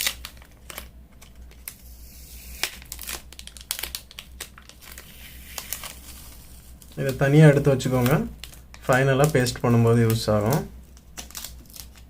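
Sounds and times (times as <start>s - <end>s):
adhesive label peeling crackles: 0.0s - 12.0s
steady low hum: 0.0s - 12.0s.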